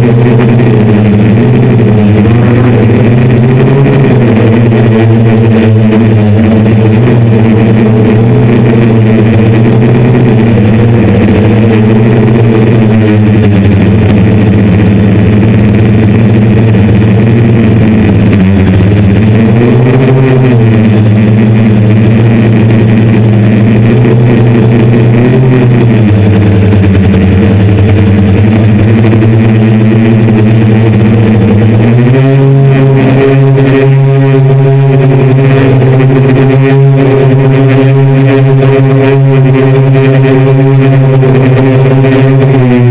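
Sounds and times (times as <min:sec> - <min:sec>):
drone propellers droning: 0:00.0 - 0:42.9.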